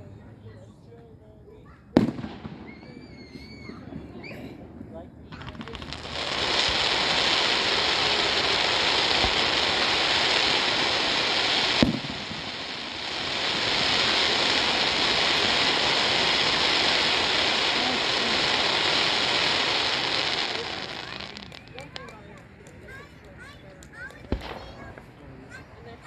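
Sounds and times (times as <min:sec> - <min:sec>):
fireworks hissing crackle: 0:01.6 - 0:26.0
firework bang: 0:02.0 - 0:26.0.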